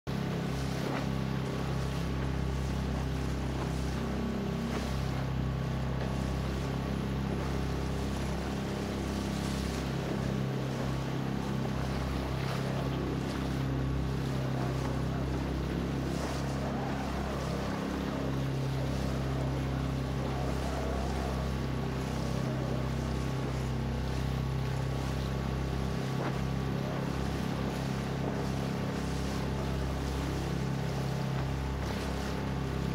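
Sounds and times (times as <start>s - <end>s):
water along hull: 0.0s - 32.9s
outboard motor droning: 0.1s - 32.9s.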